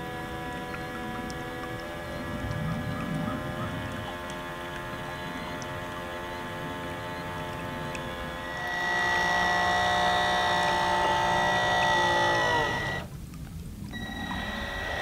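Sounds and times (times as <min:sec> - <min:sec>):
model boat motor whining: 0:00.0 - 0:13.2, 0:13.9 - 0:15.0.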